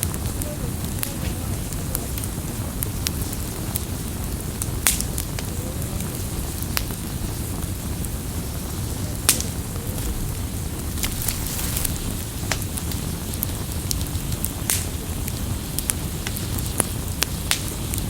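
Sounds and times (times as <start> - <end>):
campfire flames crackling and popping: 0.0 - 18.0.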